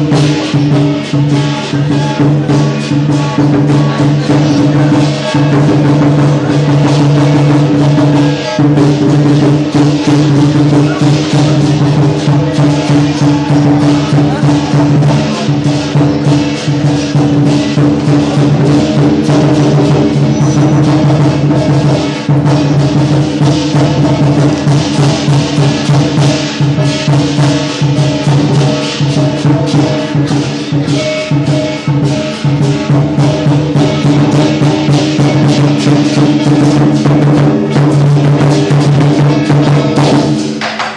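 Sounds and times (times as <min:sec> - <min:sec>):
gong strikes: 0:00.0 - 0:40.6
cymbals crashing: 0:00.0 - 0:40.9
lion dance drum: 0:00.0 - 0:40.9.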